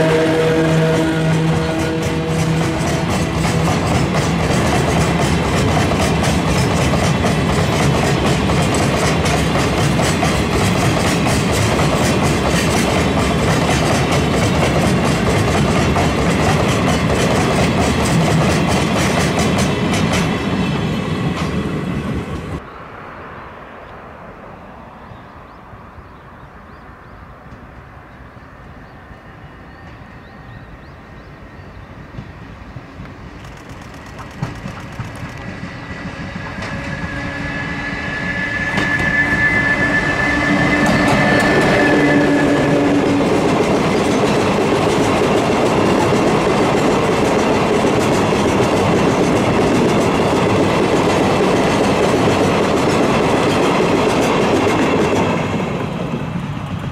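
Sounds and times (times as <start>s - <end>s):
train wheels clacking: 0.8s - 22.6s, 32.0s - 56.9s.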